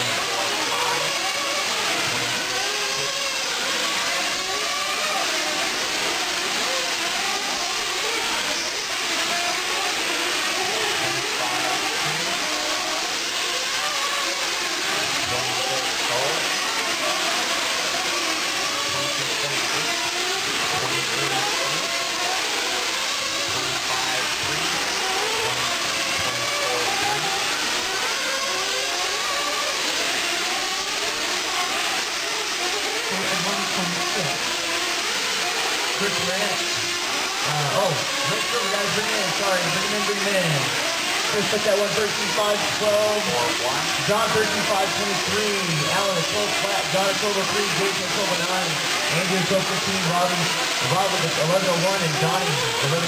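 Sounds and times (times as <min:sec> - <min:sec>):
model car engines whining: 0:00.0 - 0:53.0.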